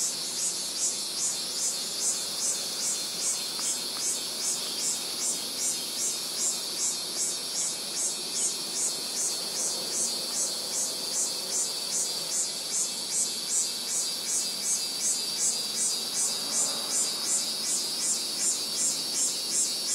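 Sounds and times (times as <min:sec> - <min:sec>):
insect calling in rhythmic pulses: 0:00.0 - 0:19.9.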